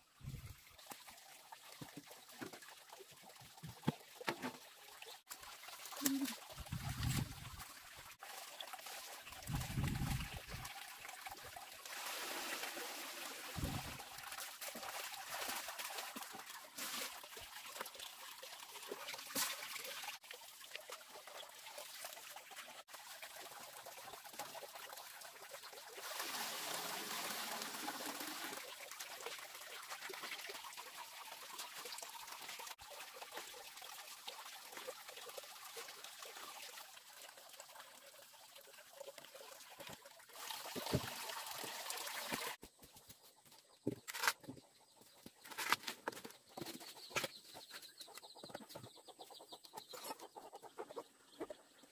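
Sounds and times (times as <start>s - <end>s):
water trickling and sloshing: 0.0s - 51.9s.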